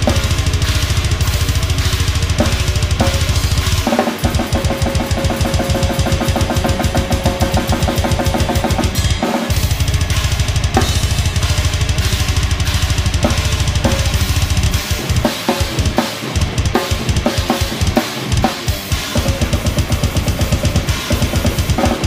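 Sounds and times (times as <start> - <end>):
drum kit played fast: 0.0 - 22.0.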